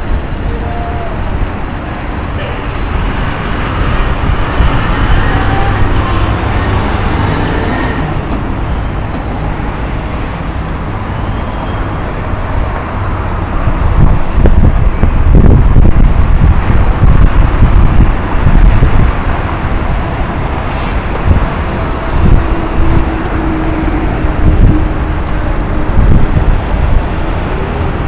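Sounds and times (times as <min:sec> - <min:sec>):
passing cars and buses: 0:00.0 - 0:28.0
wind rumbling on microphone: 0:00.0 - 0:28.0.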